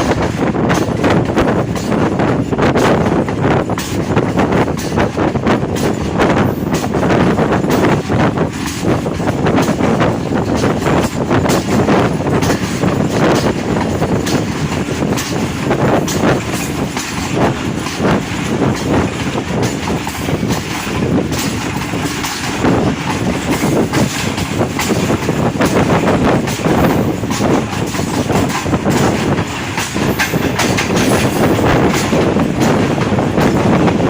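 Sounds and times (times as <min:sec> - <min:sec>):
train rumbling on track: 0:00.0 - 0:34.0
wheels clicking over rail joints: 0:00.0 - 0:34.0.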